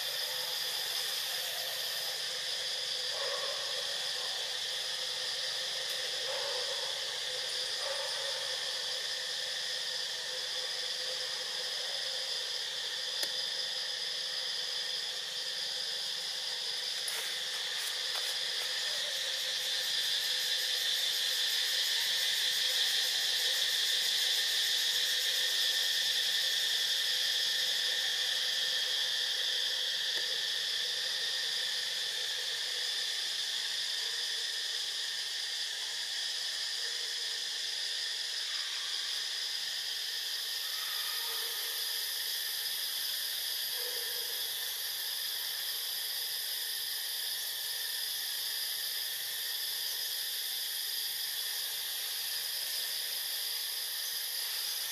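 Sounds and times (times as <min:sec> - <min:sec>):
forest insects buzzing: 0:00.0 - 0:54.9.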